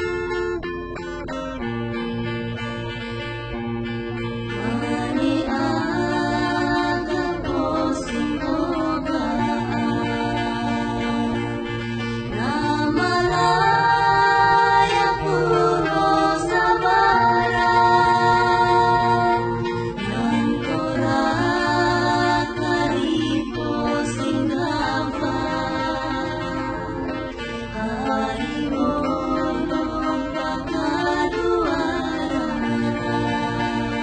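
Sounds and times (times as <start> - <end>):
song with sung vocals: 0.0 - 34.0.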